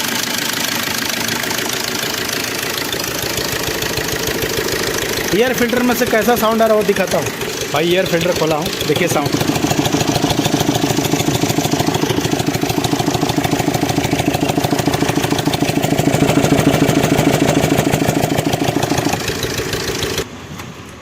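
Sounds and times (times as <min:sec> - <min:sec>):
rapid even engine tapping: 0:00.0 - 0:20.2
diesel engine idling: 0:00.0 - 0:20.5.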